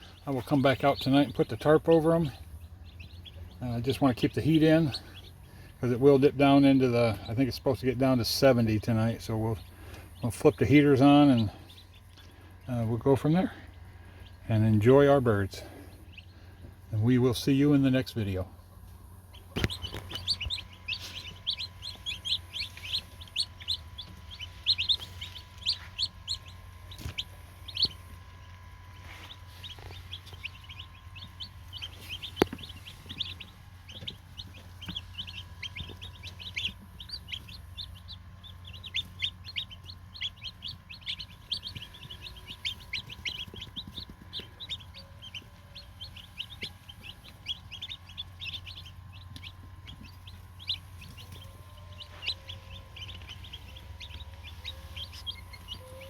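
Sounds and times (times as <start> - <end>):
chicks peeping: 0.0 - 56.0
low steady hum: 0.0 - 56.0.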